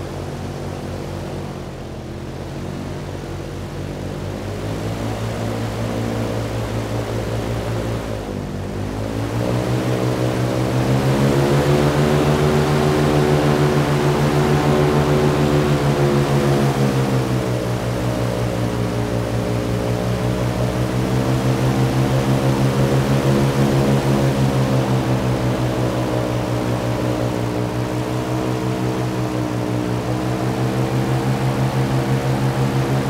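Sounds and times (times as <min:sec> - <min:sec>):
hovercraft engine running: 0:00.0 - 0:33.0.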